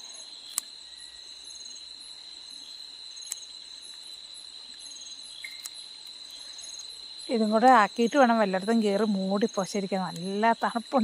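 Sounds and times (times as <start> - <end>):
crickets trilling: 0.0 - 11.0
insect pulsed chirps: 0.0 - 11.0.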